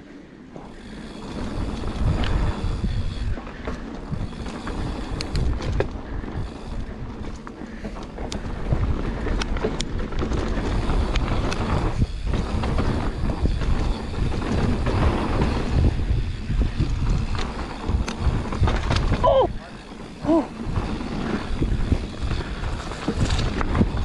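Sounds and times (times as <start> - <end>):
bike clicks and rattles: 0.0 - 24.0
bike tyres on dirt: 0.0 - 24.0
wind buffeting microphone: 0.8 - 24.0.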